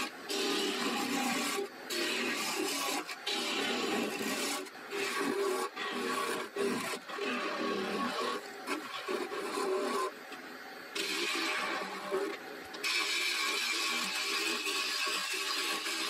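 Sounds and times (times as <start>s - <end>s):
lathe tool cutting wood: 0.0s - 10.2s, 11.0s - 16.0s.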